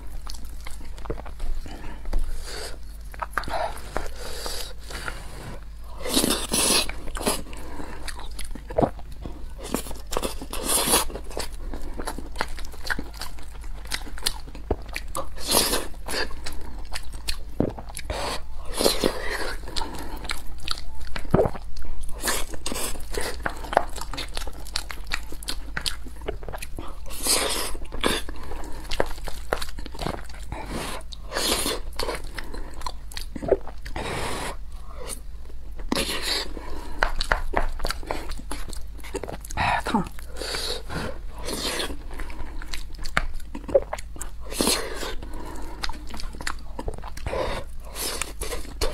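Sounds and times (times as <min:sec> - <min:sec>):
chewing and mouth clicks: 0:00.1 - 0:02.2, 0:02.8 - 0:04.2, 0:06.0 - 0:34.0, 0:35.1 - 0:48.9.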